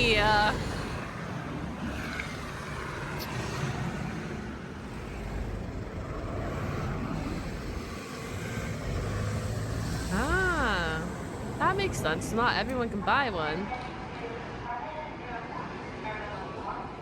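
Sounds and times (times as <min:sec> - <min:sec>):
low traffic hum: 0:00.0 - 0:17.0
street ambience: 0:00.0 - 0:17.0.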